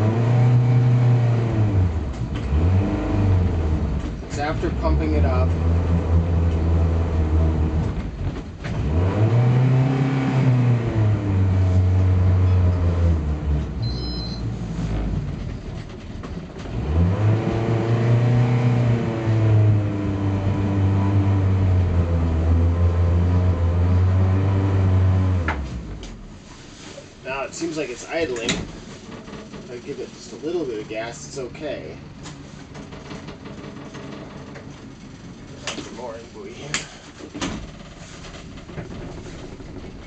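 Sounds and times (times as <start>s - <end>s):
boat engine revving: 0.0s - 32.2s.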